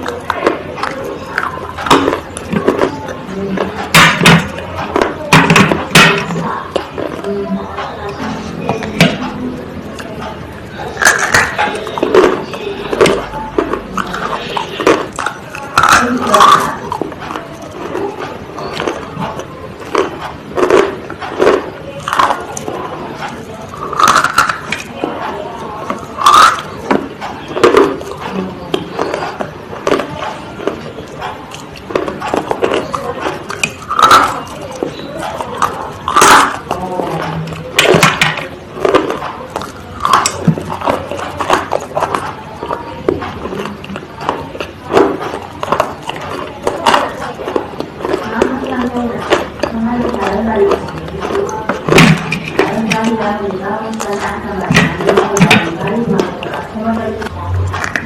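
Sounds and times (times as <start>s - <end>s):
crunching while chewing: 0.0s - 58.0s.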